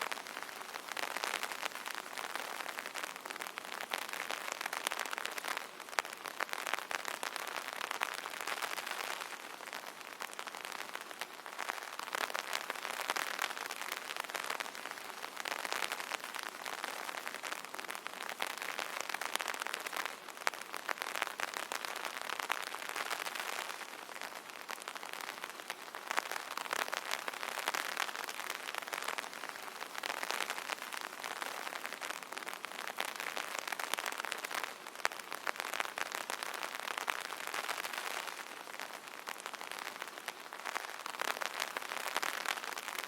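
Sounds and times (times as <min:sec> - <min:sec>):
rain pattering on an umbrella: 0:00.0 - 0:43.0.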